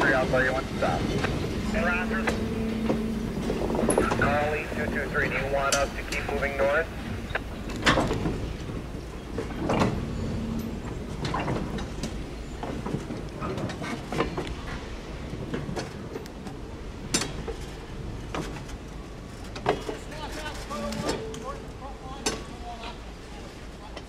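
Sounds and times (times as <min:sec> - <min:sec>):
train clanks and clicks: 0:00.0 - 0:24.0
train rumbling: 0:00.0 - 0:24.0.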